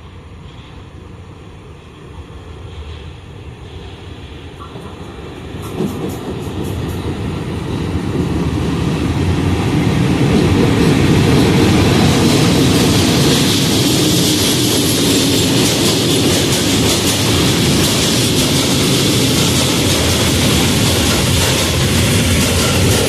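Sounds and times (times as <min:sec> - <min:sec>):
train wheel and rail rumble: 0:00.0 - 0:23.0
sharp clicks from train wheels: 0:04.4 - 0:23.0.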